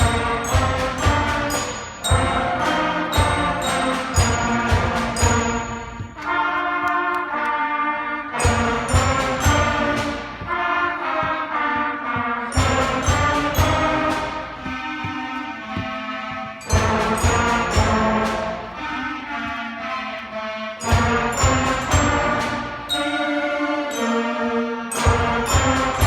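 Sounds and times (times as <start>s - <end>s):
percussion strokes and drum hits: 0.0s - 7.4s, 8.3s - 24.0s, 24.9s - 26.0s
concert band playing march: 0.0s - 26.0s.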